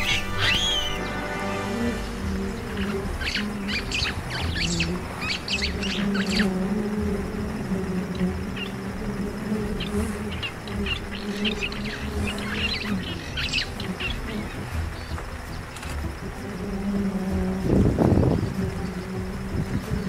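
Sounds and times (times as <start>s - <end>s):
bees buzzing: 0.0s - 20.0s
birds chirping: 0.0s - 20.0s.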